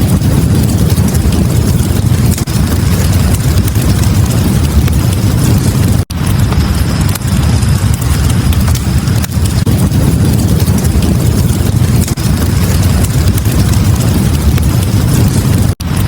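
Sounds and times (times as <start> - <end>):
fire crackling: 0.0 - 16.0
fire flames rumbling: 0.0 - 16.0.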